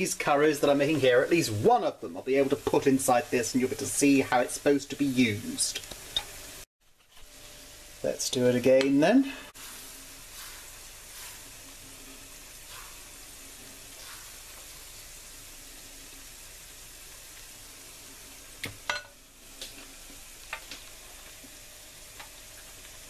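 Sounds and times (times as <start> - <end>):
batter sizzling in frying pan: 0.0 - 23.0.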